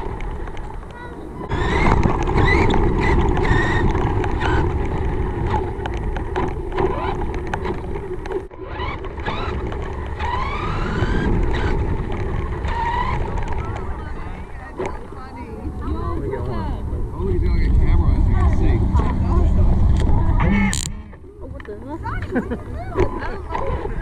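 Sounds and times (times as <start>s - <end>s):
rc car motor hum: 0.0s - 21.2s
wind on microphone: 0.0s - 24.0s.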